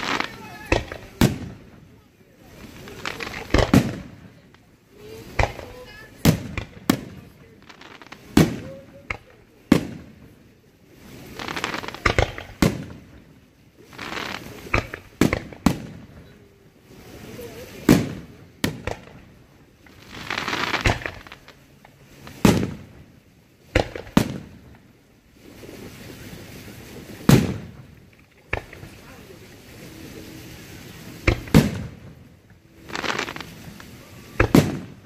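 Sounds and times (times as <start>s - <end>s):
fireworks bursting with bangs: 0.0s - 35.0s
fireworks hissing up: 0.0s - 35.0s.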